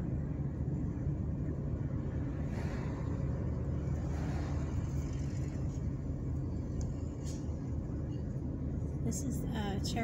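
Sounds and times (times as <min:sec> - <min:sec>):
car cabin road rumble: 0:00.0 - 0:10.0.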